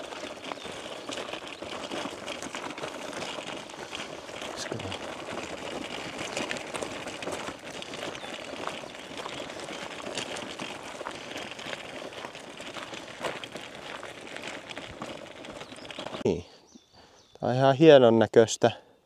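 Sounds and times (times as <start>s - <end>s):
footsteps crunching on gravel: 0.0s - 16.3s.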